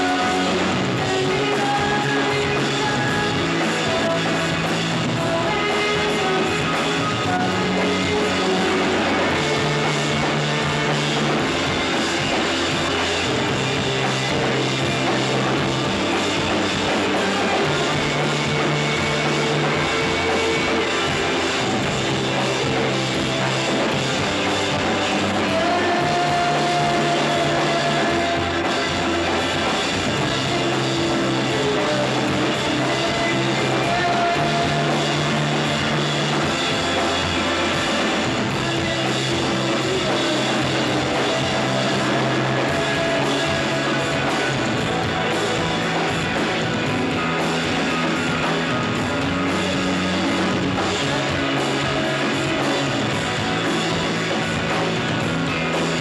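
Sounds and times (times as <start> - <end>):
bass holding low notes: 0.0 - 56.0
rock band playing live: 0.0 - 56.0.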